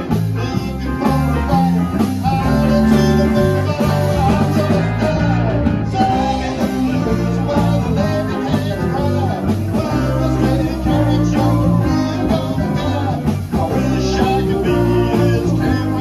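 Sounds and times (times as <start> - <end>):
bass guitar: 0.0 - 16.0
drums: 0.0 - 16.0
electric guitars: 0.0 - 16.0.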